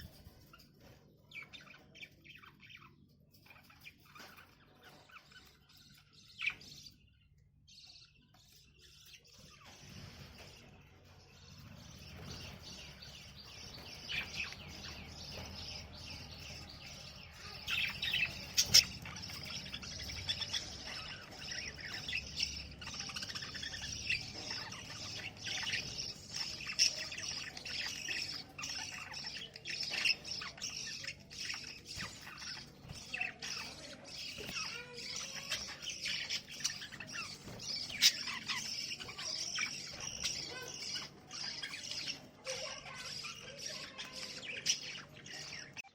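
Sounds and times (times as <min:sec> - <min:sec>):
budgerigars chirping: 0:00.0 - 0:45.9.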